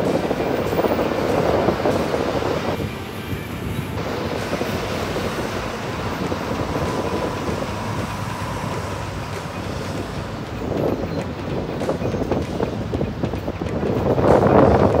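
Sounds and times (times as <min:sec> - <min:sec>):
faint steady whine: 0:00.0 - 0:13.7
street traffic rumble: 0:00.0 - 0:15.0
wind buffeting microphone: 0:00.0 - 0:15.0.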